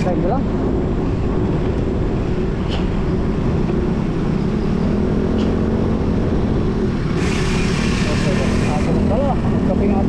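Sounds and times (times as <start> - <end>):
low rumble of road noise: 0.0 - 10.0.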